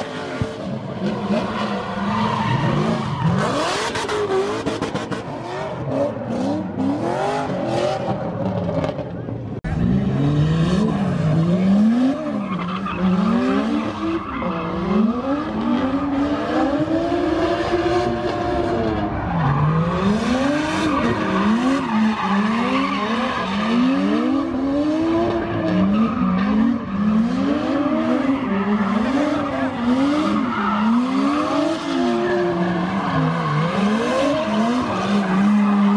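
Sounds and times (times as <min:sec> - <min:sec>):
car engine revving: 0:00.0 - 0:35.9
tires squealing on asphalt: 0:00.0 - 0:35.9.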